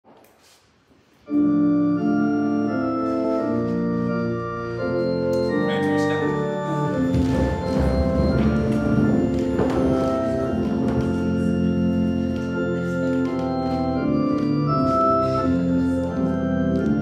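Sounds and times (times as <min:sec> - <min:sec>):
organ playing held chords: 0:01.3 - 0:17.0.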